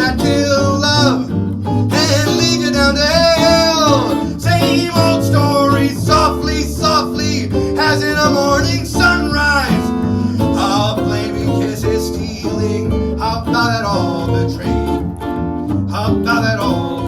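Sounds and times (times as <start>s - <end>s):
person singing: 0.0s - 15.0s, 15.9s - 17.0s
bass: 0.0s - 17.0s
guitar: 0.0s - 17.0s.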